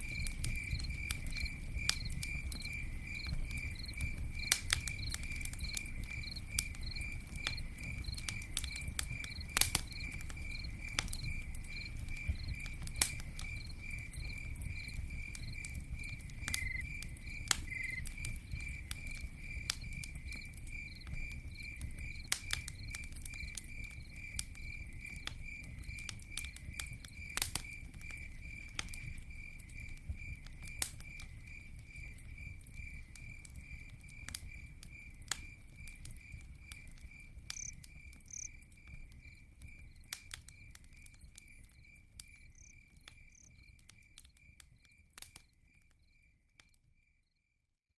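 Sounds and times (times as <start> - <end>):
campfire crackling and popping: 0.0 - 47.0
cricket chirping: 0.0 - 47.6.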